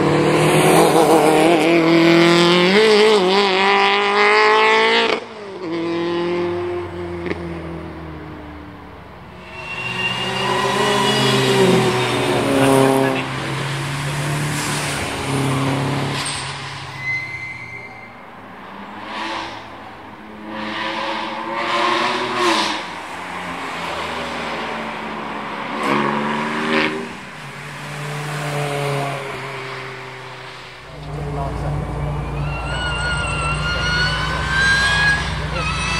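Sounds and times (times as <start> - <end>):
race car engines revving: 0.0 - 35.9.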